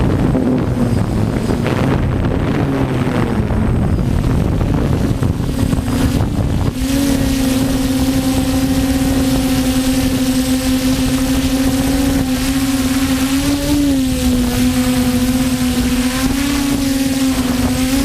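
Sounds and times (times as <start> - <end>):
drone motors whirring: 0.0 - 18.0
wind buffeting microphone: 0.0 - 18.0.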